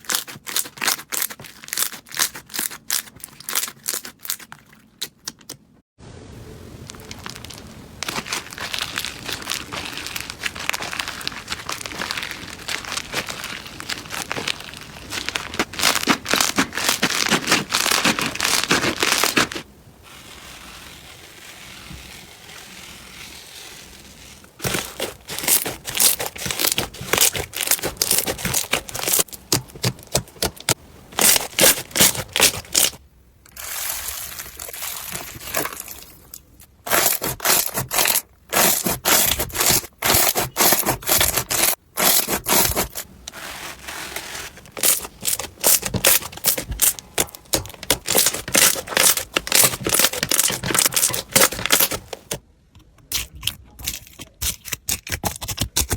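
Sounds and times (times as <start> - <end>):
slime crackling and popping: 0.0 - 5.2, 6.8 - 43.1, 44.7 - 52.4.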